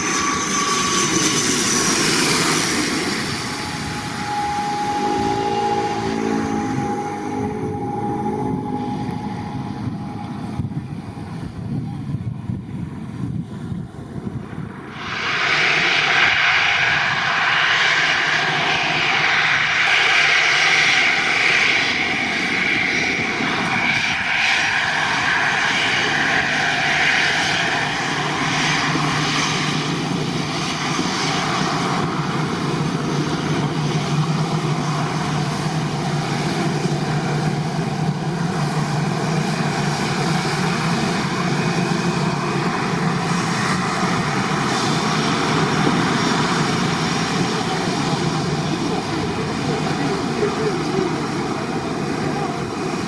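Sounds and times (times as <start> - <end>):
jet engines roaring: 0.0 - 53.0
low engine drone: 0.0 - 53.0.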